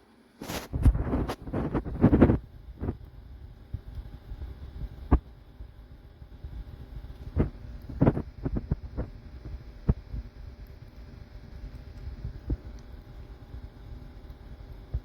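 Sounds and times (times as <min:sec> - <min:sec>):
humidifier humming: 0:00.0 - 0:15.0.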